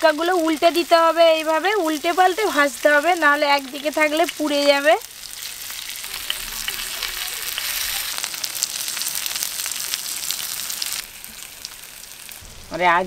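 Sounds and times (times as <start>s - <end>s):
skewers sizzling in oil: 0.0s - 13.0s.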